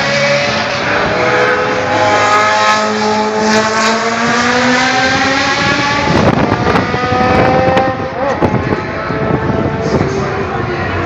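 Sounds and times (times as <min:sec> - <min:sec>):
racing car engine revving: 0:00.0 - 0:11.0.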